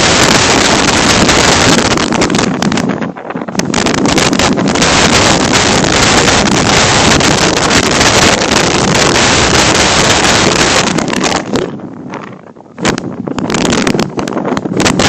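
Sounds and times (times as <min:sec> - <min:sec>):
wind gusts buffeting microphone: 0:00.0 - 0:15.0.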